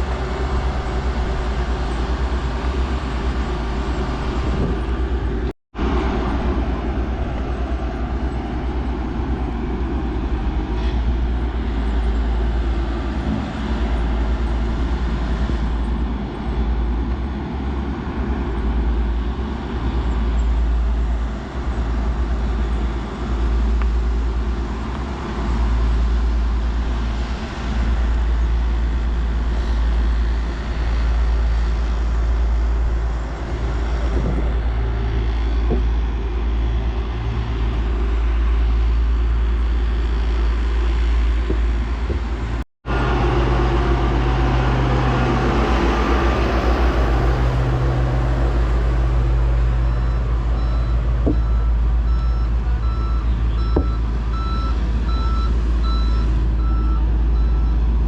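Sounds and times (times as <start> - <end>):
heavy machinery engines rumbling: 0.0 - 58.0.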